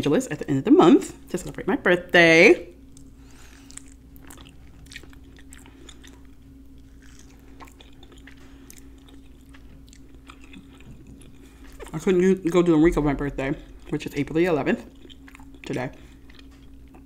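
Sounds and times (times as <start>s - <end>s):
person chewing meat: 2.9s - 17.0s.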